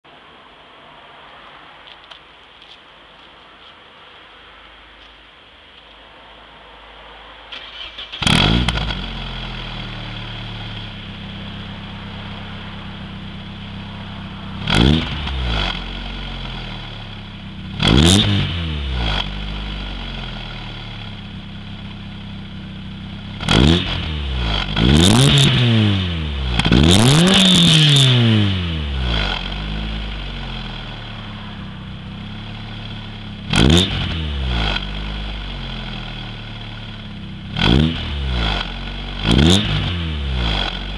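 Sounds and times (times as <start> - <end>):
car engine revving: 7.5 - 40.9.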